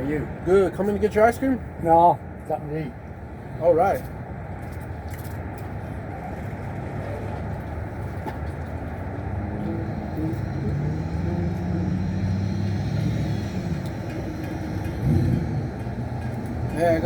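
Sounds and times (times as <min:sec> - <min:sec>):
traffic noise: 0:00.0 - 0:17.0
vehicle engine humming: 0:00.0 - 0:17.0.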